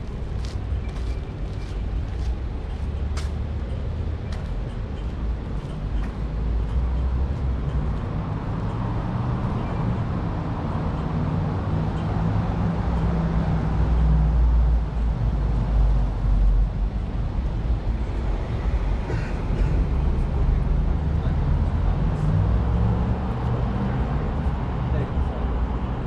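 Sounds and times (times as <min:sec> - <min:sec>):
tyre noise of passing vehicle: 0:00.0 - 0:26.0
vehicle engines humming: 0:00.0 - 0:26.0.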